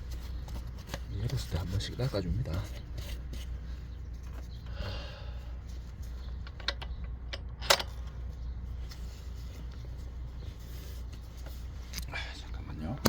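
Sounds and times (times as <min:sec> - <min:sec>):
handling noises in engine bay: 0:00.0 - 0:13.0
low steady hum: 0:00.0 - 0:13.0.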